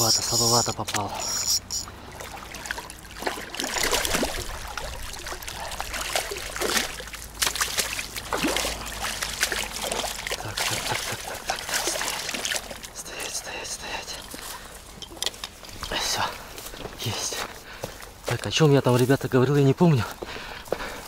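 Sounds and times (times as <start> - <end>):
water splashing and sloshing: 0.7 - 19.2.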